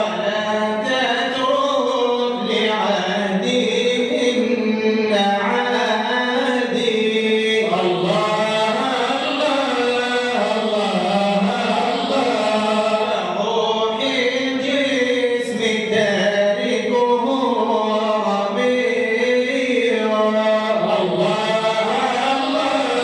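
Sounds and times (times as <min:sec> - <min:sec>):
men chanting devotional poem: 0:00.0 - 0:23.0.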